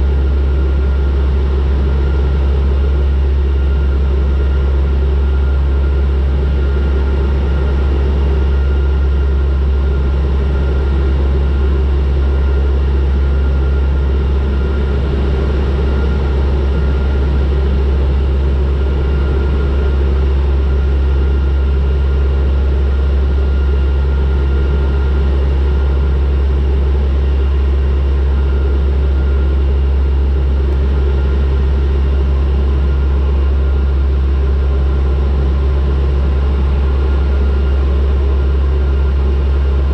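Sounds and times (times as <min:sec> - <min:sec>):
low propeller drone: 0:00.0 - 0:39.9
thin engine whine: 0:00.0 - 0:39.9.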